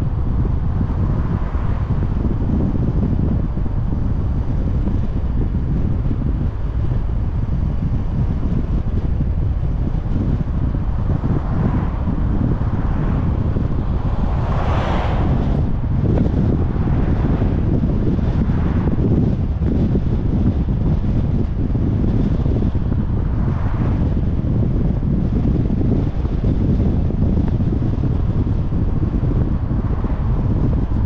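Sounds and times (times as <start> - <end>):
road noise: 0.0 - 31.0
wind buffeting microphone: 0.0 - 31.0.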